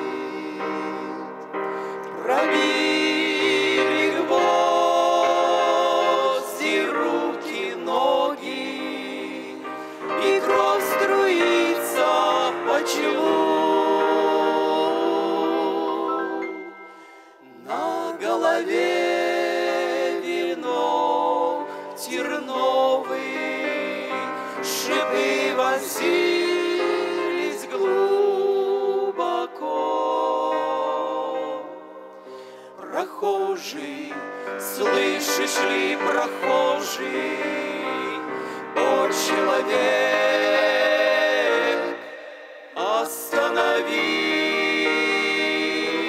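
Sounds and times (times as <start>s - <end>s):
voices singing a hymn in harmony: 0.0s - 46.0s.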